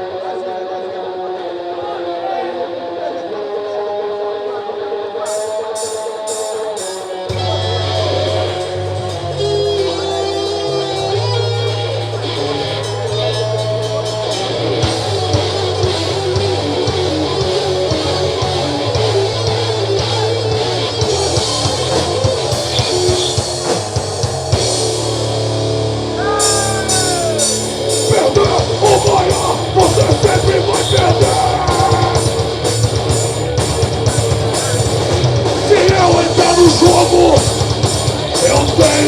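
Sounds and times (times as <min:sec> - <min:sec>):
electric guitar: 0:00.0 - 0:39.0
bass: 0:05.3 - 0:39.0
drum kit with cymbals: 0:05.3 - 0:39.0.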